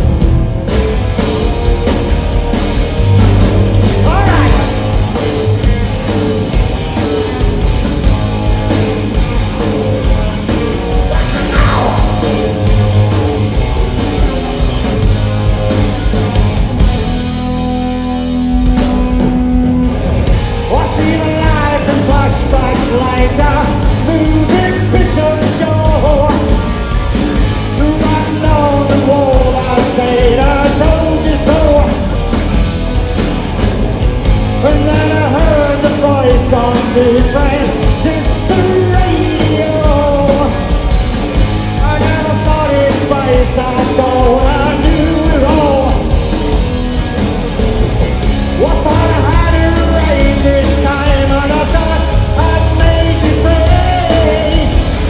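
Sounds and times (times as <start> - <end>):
bending electric guitar lead: 0.0 - 55.0
rock band playing live: 0.0 - 55.0.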